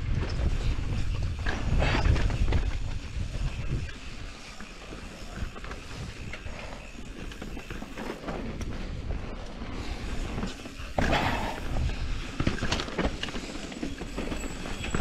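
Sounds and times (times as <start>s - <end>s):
wind noise on microphone: 0.0s - 13.2s
bike knocking and rattling on rocks: 0.0s - 15.0s
bike tyres rolling over dirt: 0.0s - 15.0s.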